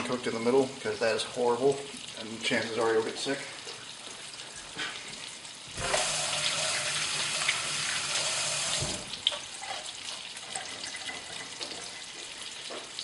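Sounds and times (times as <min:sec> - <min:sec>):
kitchen tap running into sink: 0:00.0 - 0:13.0.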